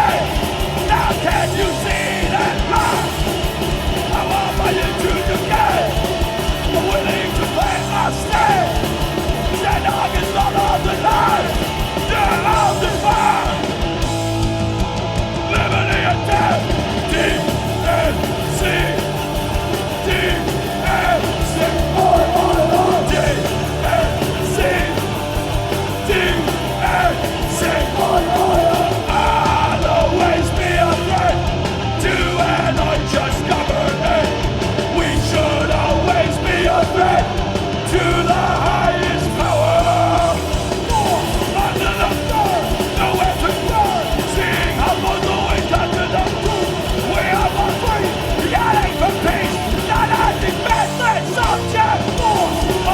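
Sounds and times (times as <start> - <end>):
shouted vocals: 0.0 - 14.2, 15.3 - 52.9
punk band playing live: 0.0 - 52.9.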